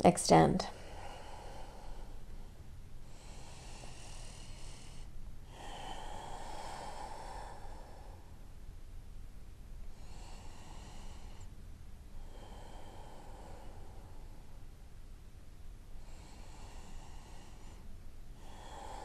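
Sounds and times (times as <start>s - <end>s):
woman breathing deeply: 0.7s - 8.6s, 9.8s - 14.8s, 15.9s - 19.0s.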